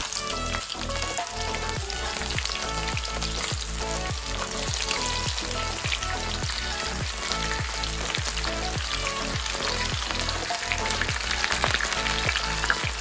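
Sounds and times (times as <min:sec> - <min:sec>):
background music with steady beat: 0:00.0 - 0:13.0
chicken deep-frying in oil: 0:00.0 - 0:13.0.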